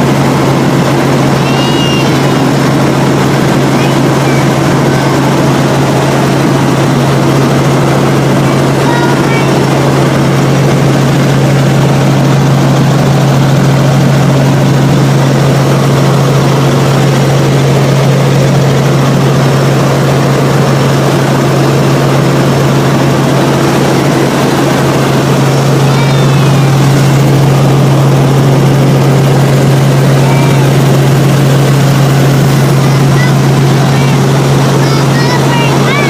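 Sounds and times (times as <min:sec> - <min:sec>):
broad rushing noise: 0:00.0 - 0:36.0
helicopter cabin drone: 0:00.0 - 0:36.0.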